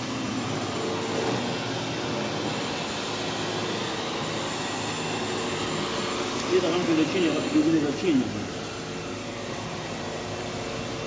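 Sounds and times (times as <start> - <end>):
vacuum cleaner on carpet: 0.0 - 11.0.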